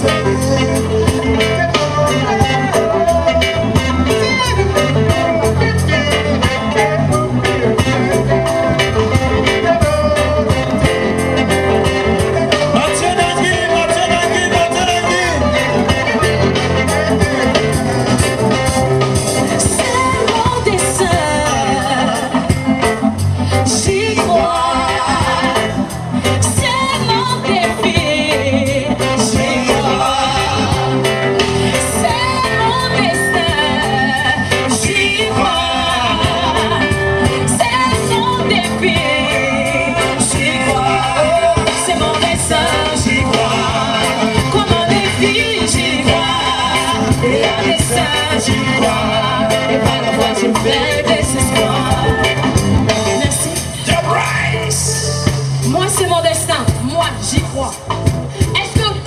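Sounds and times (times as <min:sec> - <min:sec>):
live band with singing: 0:00.0 - 0:59.0.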